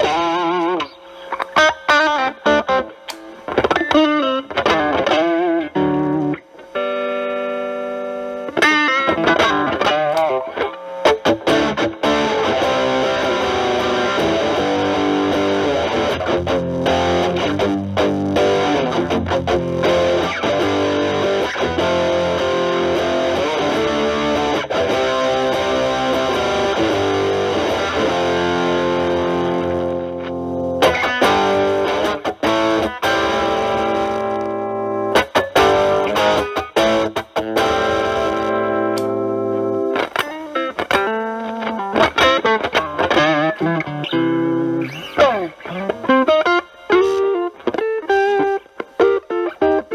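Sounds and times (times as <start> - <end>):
distorted electric guitar: 0.0 - 49.9
muted guitar strums: 0.0 - 49.9.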